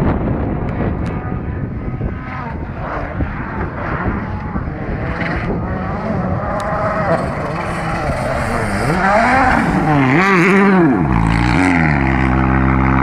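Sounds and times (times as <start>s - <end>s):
rally car engine revving: 0.1s - 13.0s.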